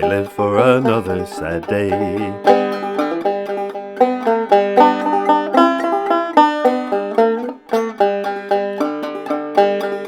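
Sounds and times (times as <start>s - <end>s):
banjo plucked notes: 0.0s - 10.0s.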